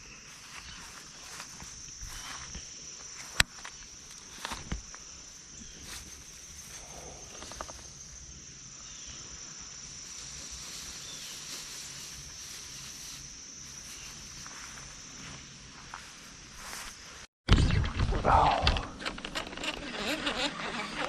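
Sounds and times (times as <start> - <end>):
insects droning: 0.0 - 17.3, 18.2 - 21.0.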